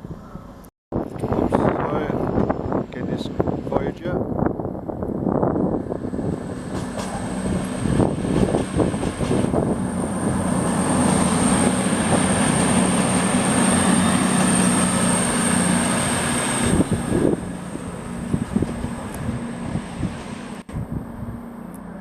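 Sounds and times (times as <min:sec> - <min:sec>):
train running through: 0:01.0 - 0:22.0.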